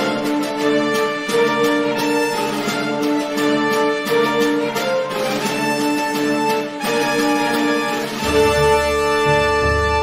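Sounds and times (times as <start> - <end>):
music of long held notes: 0.0 - 10.0.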